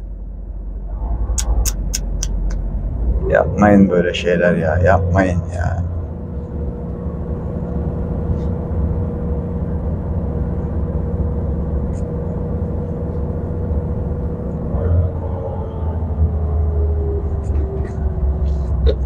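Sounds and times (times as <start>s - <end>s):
road noise: 0.0s - 19.0s
thin steady whine: 0.0s - 19.0s
truck diesel engine rumble: 0.0s - 19.0s.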